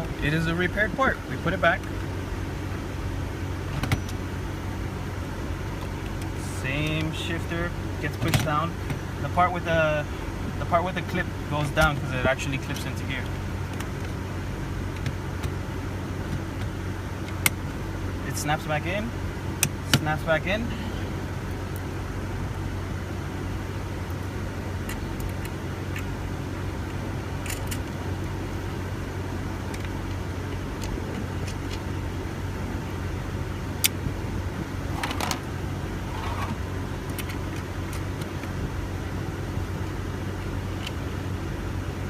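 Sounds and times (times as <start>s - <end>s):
car engine humming: 0.0s - 42.0s.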